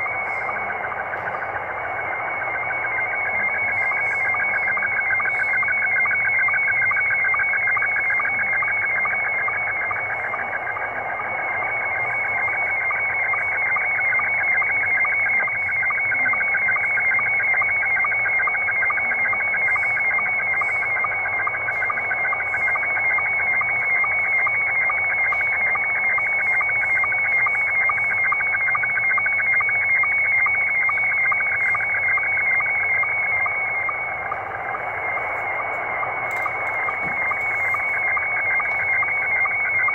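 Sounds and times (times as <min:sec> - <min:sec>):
pulsing high tone signal: 0:00.0 - 0:39.9
radio hiss: 0:00.0 - 0:39.9.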